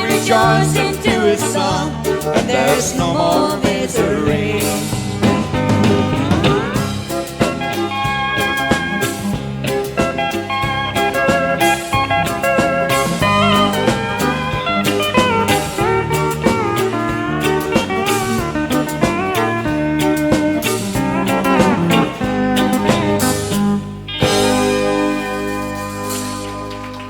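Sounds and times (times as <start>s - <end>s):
drums: 0.0s - 27.0s
live country band playing: 0.0s - 27.0s
guitar lead with bending notes: 3.3s - 27.0s.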